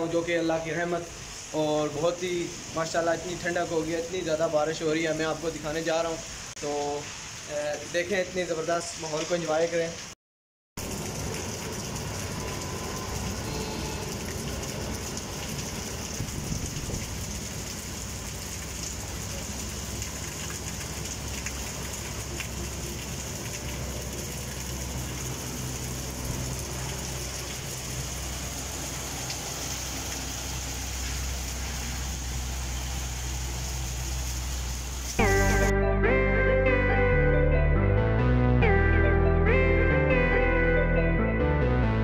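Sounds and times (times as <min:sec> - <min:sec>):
heavy rain on paving: 0:00.0 - 0:10.2, 0:10.8 - 0:35.7.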